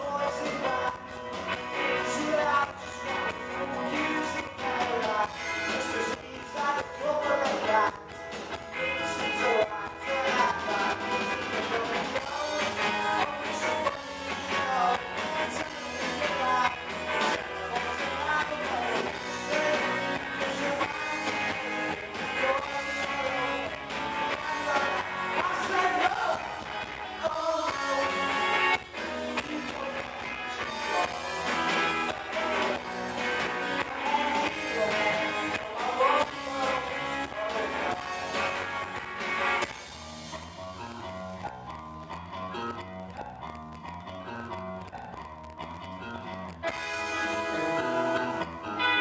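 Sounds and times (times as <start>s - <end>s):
rock band playing: 0.0s - 49.0s.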